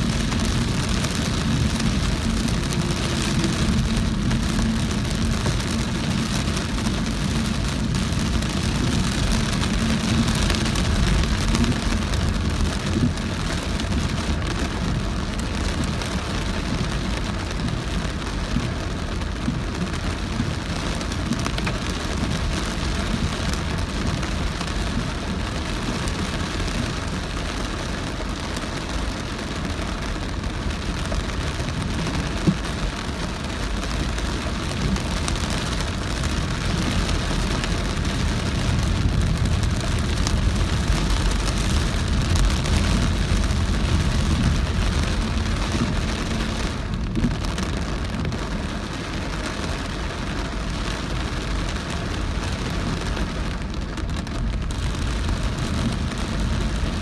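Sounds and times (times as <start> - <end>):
car tyres and engine rumble: 0.0 - 57.0
heavy rain on car: 0.0 - 57.0.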